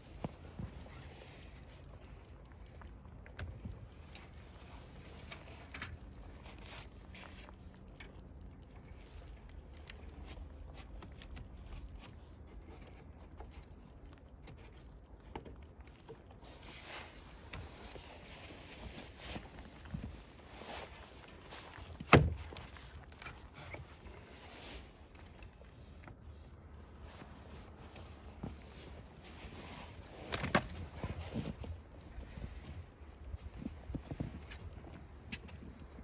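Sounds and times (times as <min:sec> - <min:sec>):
rabbits rustling and nibbling: 0:00.0 - 0:36.0.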